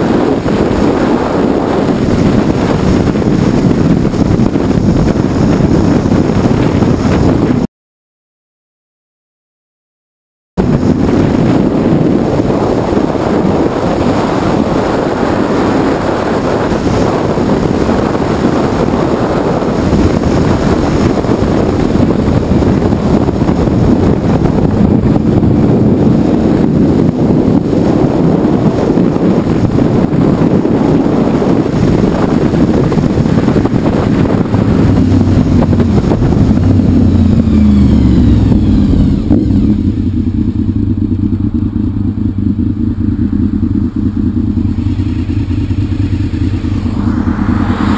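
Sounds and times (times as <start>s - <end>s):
motorcycle engine running: 0.0s - 7.7s, 10.6s - 47.9s
wind rush: 0.0s - 7.7s, 10.6s - 47.9s.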